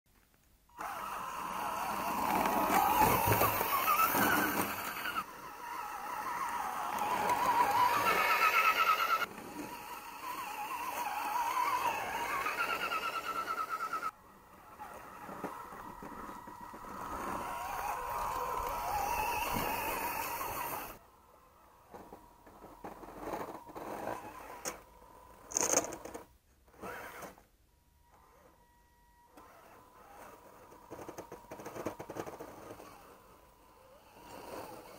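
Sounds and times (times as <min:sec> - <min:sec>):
electric motor and gears whining: 0:00.7 - 0:34.9.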